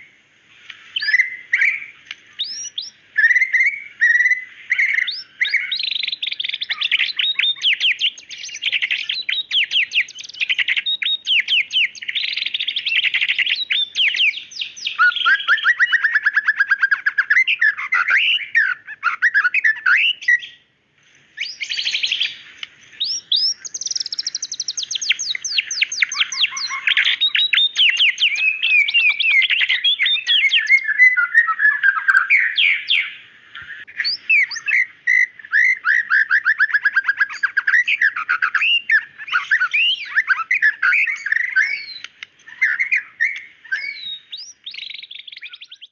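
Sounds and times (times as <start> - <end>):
bird singing whistles and trills: 0.0 - 20.7, 21.4 - 45.9.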